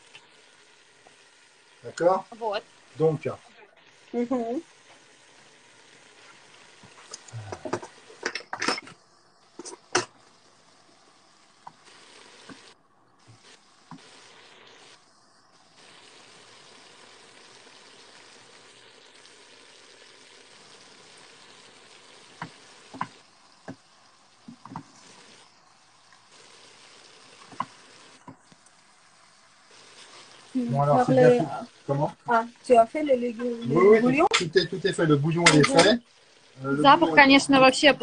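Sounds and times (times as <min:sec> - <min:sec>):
meat sizzling in a pot: 0:00.0 - 0:38.0.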